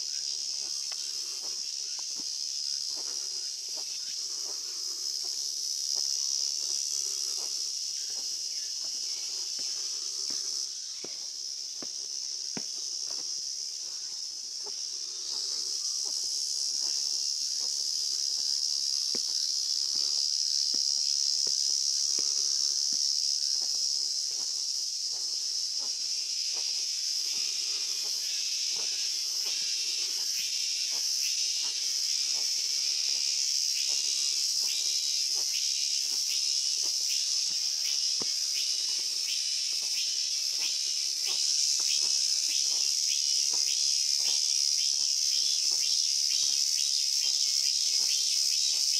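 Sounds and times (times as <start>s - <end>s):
cicadas droning: 0.0s - 48.9s
footsteps on stone path: 0.0s - 48.9s
pulsing insect chorus: 0.0s - 48.9s.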